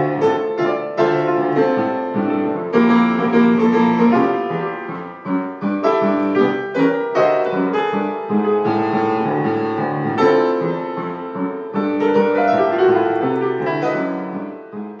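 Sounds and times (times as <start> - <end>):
jazz piano piece: 0.0 - 15.0.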